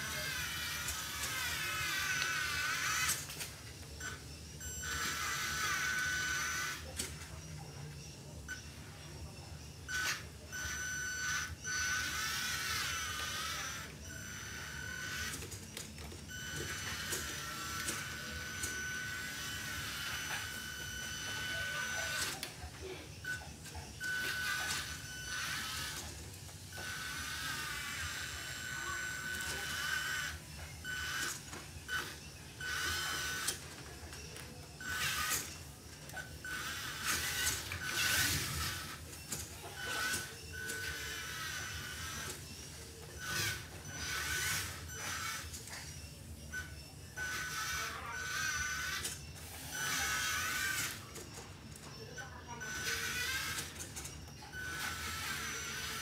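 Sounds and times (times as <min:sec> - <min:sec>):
electric motor whining: 0:00.0 - 0:07.4, 0:09.9 - 0:51.4, 0:52.0 - 0:56.0.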